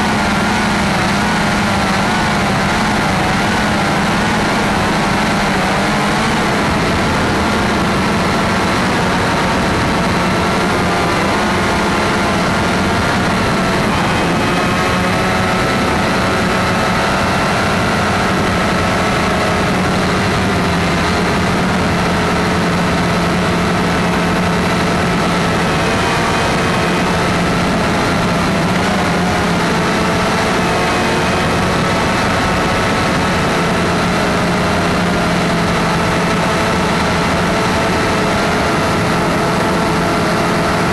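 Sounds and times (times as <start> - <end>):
drone motors humming: 0.0 - 40.9.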